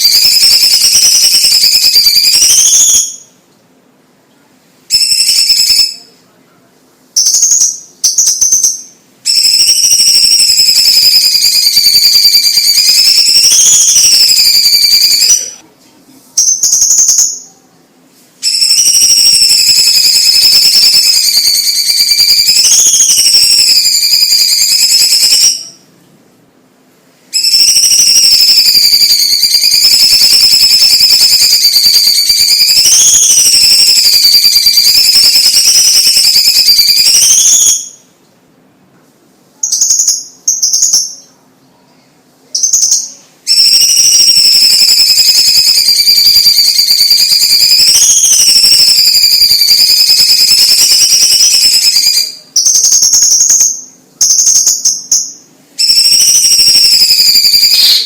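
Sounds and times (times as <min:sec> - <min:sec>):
bird singing high-pitched song: 0:00.0 - 0:03.4, 0:04.9 - 0:06.2, 0:07.2 - 0:15.6, 0:16.3 - 0:17.7, 0:18.4 - 0:25.9, 0:27.3 - 0:38.2, 0:39.6 - 0:58.0.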